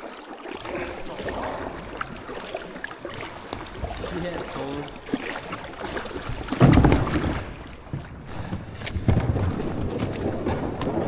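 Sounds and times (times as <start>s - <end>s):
kayak paddle strokes in water: 0.0s - 11.0s
water splashing: 0.0s - 11.0s.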